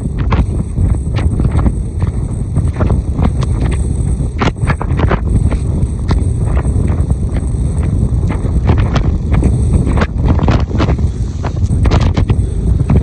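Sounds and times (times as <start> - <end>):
short crackles and knocks: 0.0 - 13.0
wind buffeting microphone: 0.0 - 13.0.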